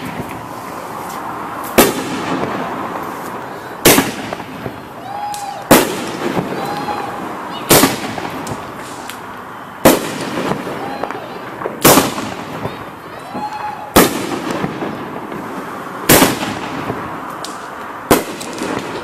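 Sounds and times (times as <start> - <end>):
firework shells exploding: 0.0 - 19.0.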